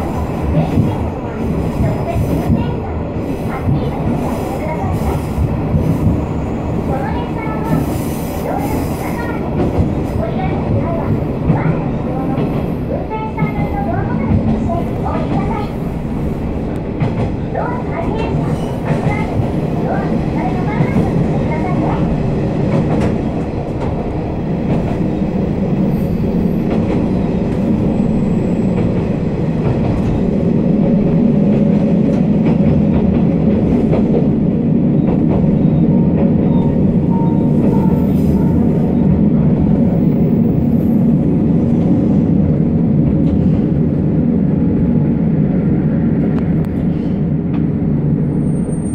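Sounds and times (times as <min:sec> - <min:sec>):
railcar engine drone: 0:00.0 - 0:48.9.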